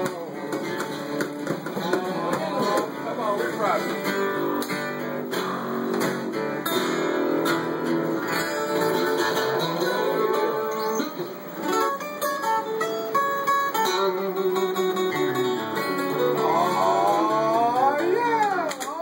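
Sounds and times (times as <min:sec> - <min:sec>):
acoustic guitars strumming: 0:00.0 - 0:19.0
picked guitar notes: 0:00.0 - 0:19.0.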